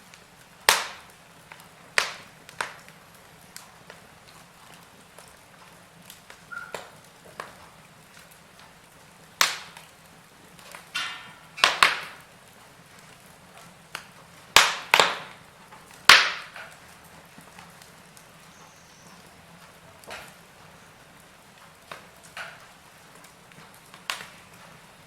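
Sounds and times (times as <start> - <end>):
fire cracking and popping: 0.0 - 25.0.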